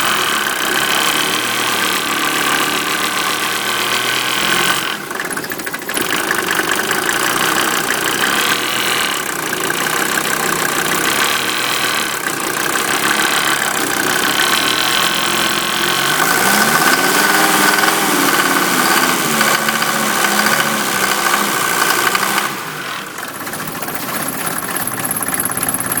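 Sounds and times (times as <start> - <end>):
diesel engine running: 0.0 - 26.0
loud clanging: 0.0 - 26.0.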